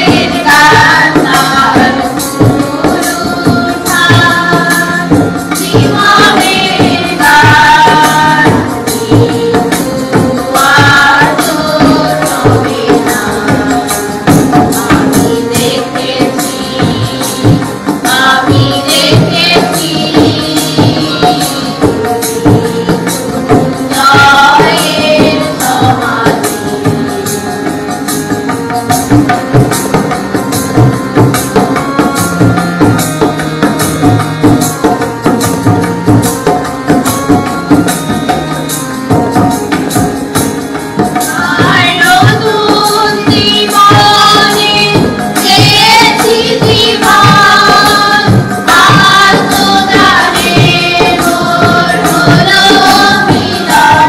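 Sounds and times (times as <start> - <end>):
devotional song singing: 0.0 - 54.0
instrumental music: 0.0 - 54.0
steady percussion beat: 0.0 - 54.0.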